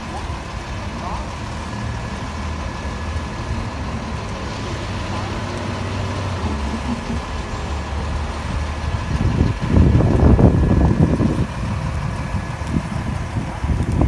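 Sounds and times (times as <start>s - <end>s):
heavy truck engine idling: 0.0s - 14.0s.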